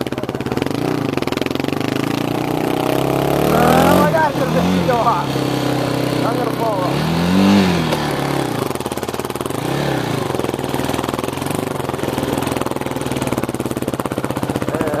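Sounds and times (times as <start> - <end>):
small engine running and revving: 0.0 - 15.0.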